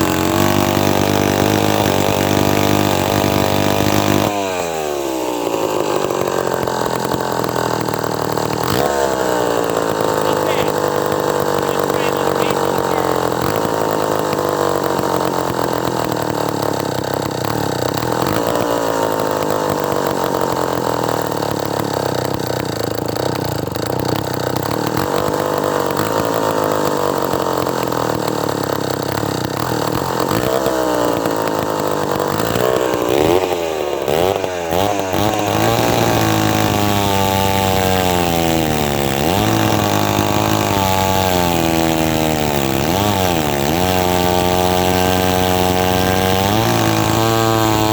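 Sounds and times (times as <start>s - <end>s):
two-stroke chainsaw engine running: 0.0s - 47.9s.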